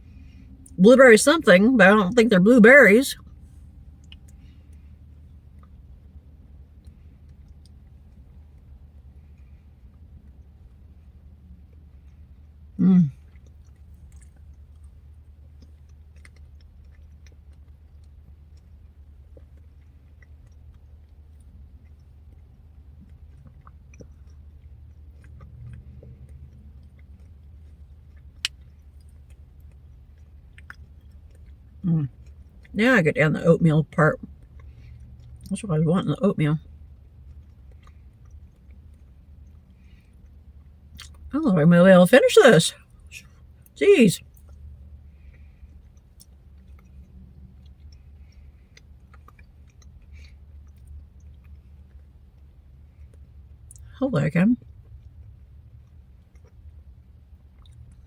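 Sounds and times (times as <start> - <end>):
quiet chewing: 0.0 - 0.8, 3.2 - 32.8, 34.2 - 35.6, 36.6 - 41.3, 42.8 - 53.9, 54.6 - 58.0
steady low hum: 0.0 - 58.0.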